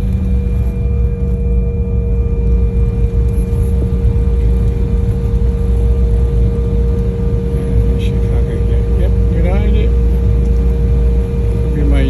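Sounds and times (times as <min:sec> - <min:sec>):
airliner engine rumble: 0:00.0 - 0:12.0
constant cabin hum: 0:00.0 - 0:12.0.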